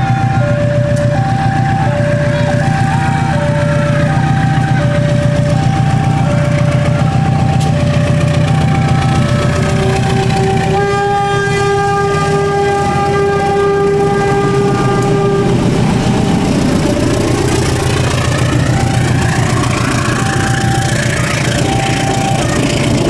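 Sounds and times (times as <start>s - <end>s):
level crossing warning alarm: 0.0s - 23.0s
locomotive horn blast: 0.0s - 23.0s
train wheels rumbling and clattering: 0.0s - 23.0s.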